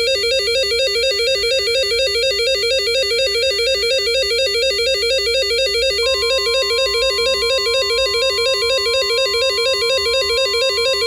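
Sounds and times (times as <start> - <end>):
warbling electronic alert alarm: 0.0 - 11.0.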